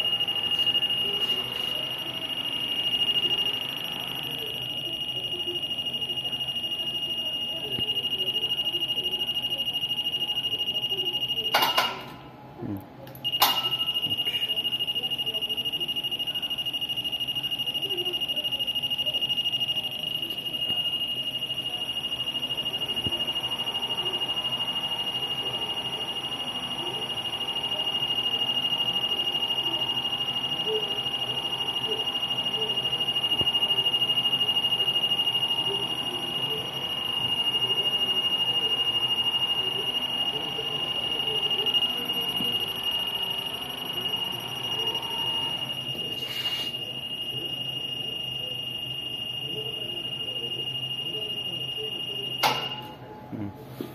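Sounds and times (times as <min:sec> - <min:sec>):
machine high-pitched whine: 0:00.0 - 0:12.1, 0:13.2 - 0:53.5.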